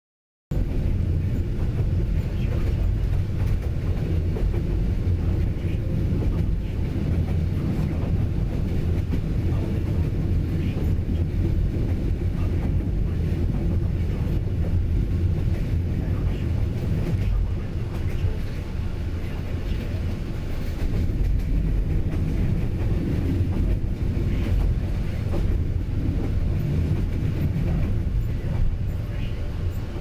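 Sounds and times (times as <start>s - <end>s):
train rumbling on rails: 0.5s - 30.0s.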